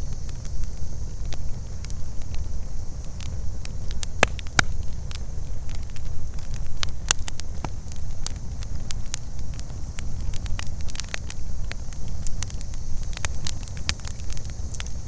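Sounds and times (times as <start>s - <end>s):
campfire crackling and popping: 0.0s - 15.0s
high insect chorus: 0.0s - 15.0s.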